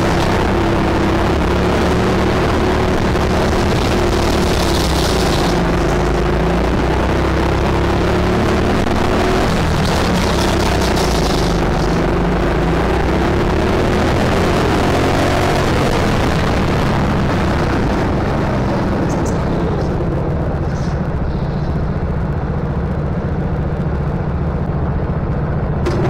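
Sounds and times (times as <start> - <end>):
go-kart engine racing: 0.0 - 26.0.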